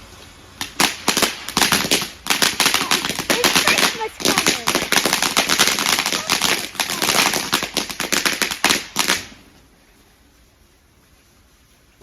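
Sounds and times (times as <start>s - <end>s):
firework crackling: 0.0s - 9.8s.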